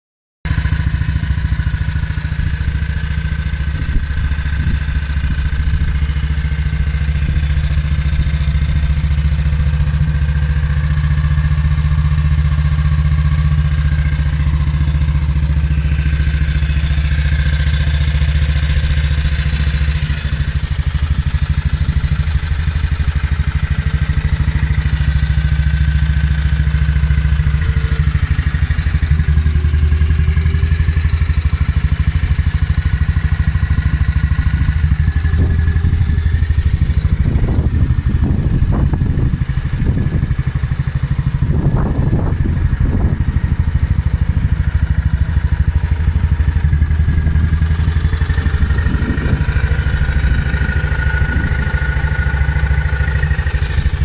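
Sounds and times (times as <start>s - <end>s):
motorcycle engine idling: 0.5s - 54.0s.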